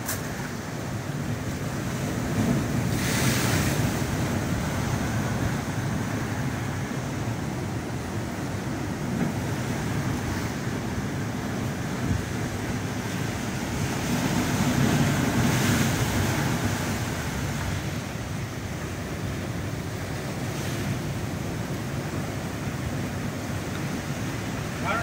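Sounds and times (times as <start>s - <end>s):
ocean surf on pebble beach: 0.0s - 25.0s.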